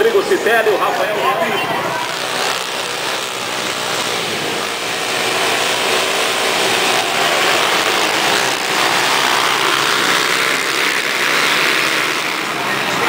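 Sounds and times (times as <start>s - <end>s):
motocross bikes revving and accelerating: 0.0s - 13.0s.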